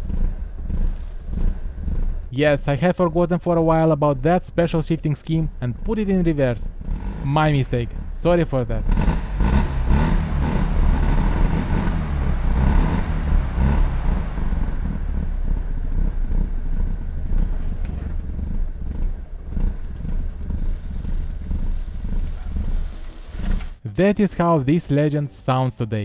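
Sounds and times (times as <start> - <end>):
rotary engine running: 0.0 - 3.8, 4.6 - 23.8.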